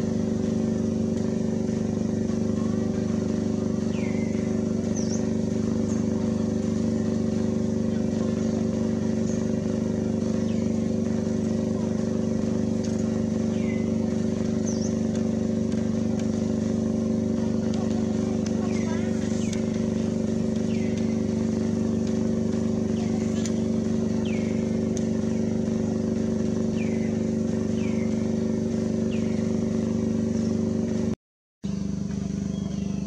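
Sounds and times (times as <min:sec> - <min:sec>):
low mechanical drone: 0:00.0 - 0:33.0.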